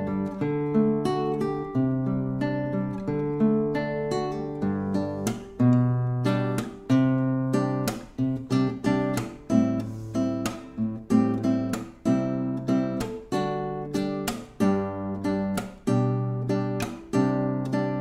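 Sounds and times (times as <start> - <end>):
classical guitar fingerstyle: 0.0 - 18.0.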